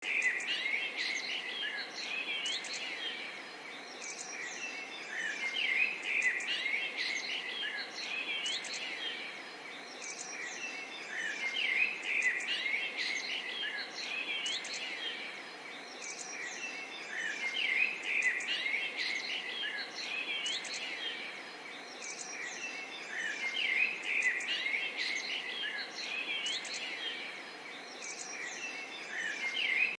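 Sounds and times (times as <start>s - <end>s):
many small birds chirping: 0.0s - 30.0s.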